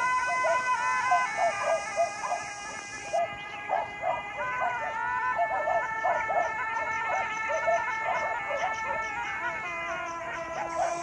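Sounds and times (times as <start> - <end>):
sustained tone with overtones: 0.0 - 11.0.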